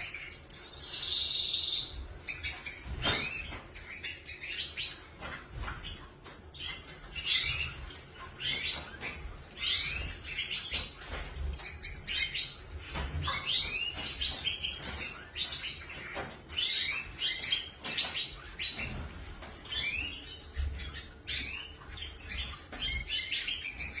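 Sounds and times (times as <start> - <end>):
canaries chirping: 0.0 - 24.0.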